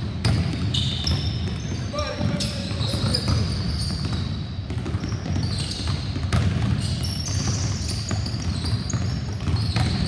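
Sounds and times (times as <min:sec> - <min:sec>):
basketballs dribbled on wooden floor: 0:00.0 - 0:10.0.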